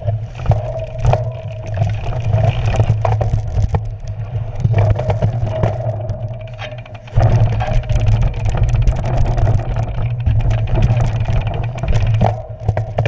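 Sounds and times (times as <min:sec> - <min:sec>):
bike knocking and rattling: 0:00.0 - 0:13.0
wind and tyres rumbling: 0:00.0 - 0:13.0.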